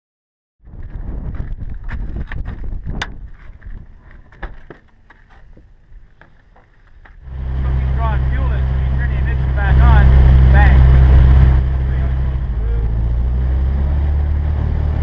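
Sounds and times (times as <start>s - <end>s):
wind buffeting microphone: 0.6s - 15.0s.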